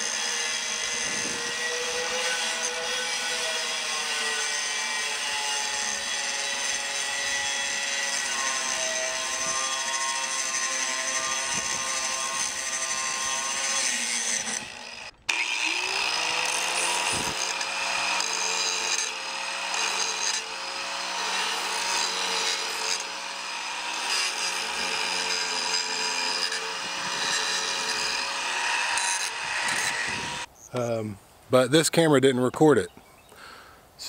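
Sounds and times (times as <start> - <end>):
angle grinder cutting steel wire: 0.0 - 30.5.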